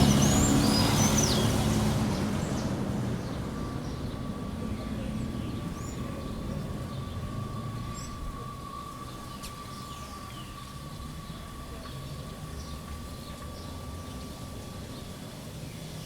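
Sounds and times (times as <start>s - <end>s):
street ambience: 0.0s - 16.0s
vehicle engine passing: 0.0s - 16.0s.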